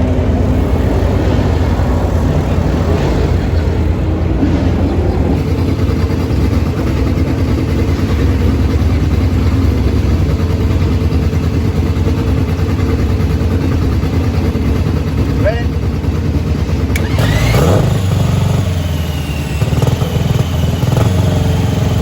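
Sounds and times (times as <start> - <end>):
racing car engine idling: 0.0 - 22.0.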